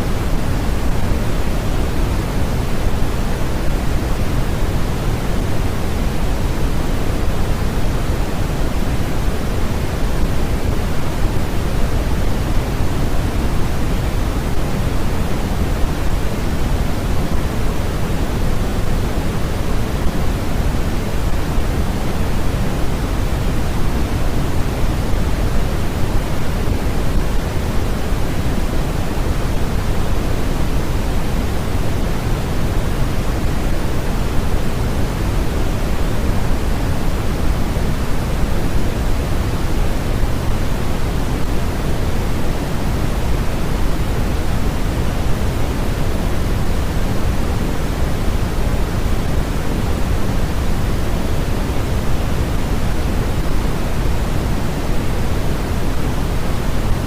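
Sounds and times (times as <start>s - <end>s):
steady sleep noise hiss: 0.0s - 57.0s.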